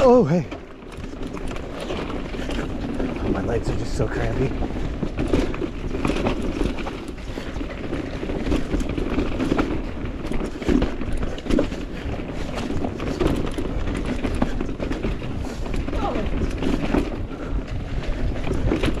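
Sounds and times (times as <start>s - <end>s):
bike knocks and rattles: 0.0s - 19.0s
bike tyre and frame rumble: 0.0s - 19.0s
wind buffeting microphone: 0.0s - 19.0s.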